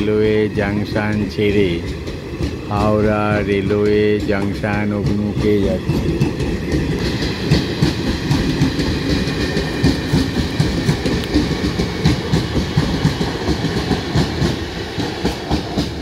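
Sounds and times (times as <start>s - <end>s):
train low rumble: 0.0s - 16.0s
train wheels clickety-clack: 0.0s - 16.0s.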